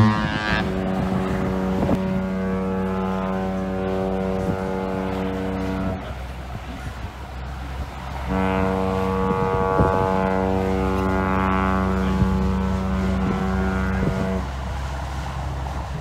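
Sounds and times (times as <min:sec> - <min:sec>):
ship's horn blast: 0:00.0 - 0:16.0.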